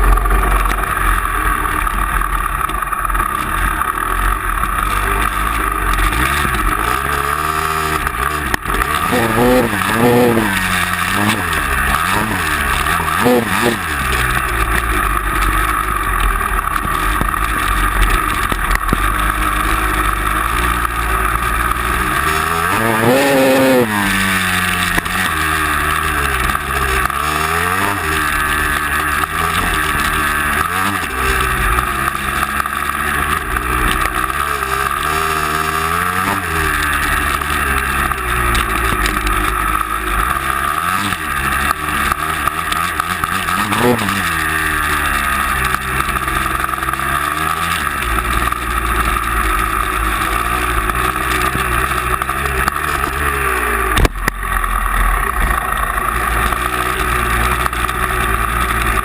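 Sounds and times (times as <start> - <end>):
driving noise drone: 0.0 - 59.0
vehicle engine revving under load: 0.0 - 59.0.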